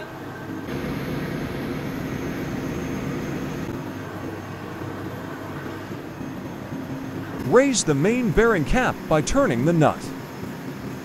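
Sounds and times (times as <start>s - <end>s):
machinery droning with low hum: 0.0s - 11.0s.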